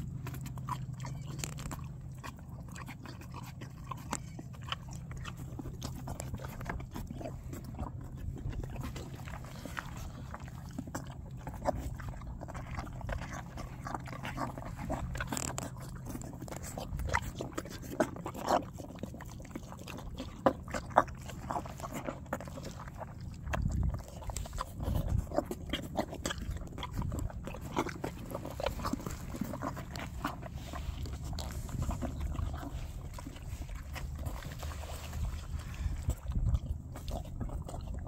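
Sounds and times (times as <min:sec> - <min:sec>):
foal slurping and chewing feed: 0:00.0 - 0:38.0.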